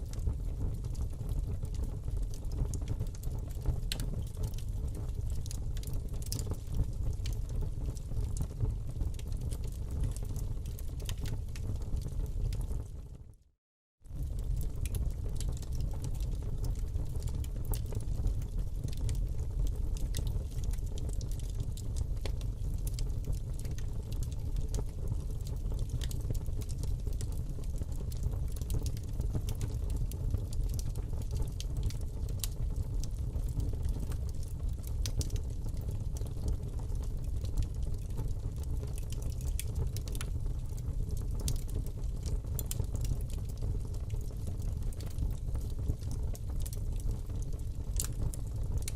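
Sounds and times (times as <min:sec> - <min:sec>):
fire crackling in a fireplace: 0:00.0 - 0:48.9.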